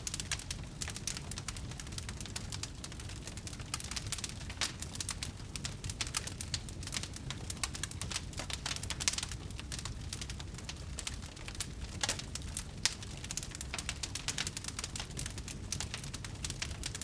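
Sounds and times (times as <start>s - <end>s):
low rumble of flame: 0.0s - 17.0s
wood fire crackling and popping: 0.0s - 17.0s.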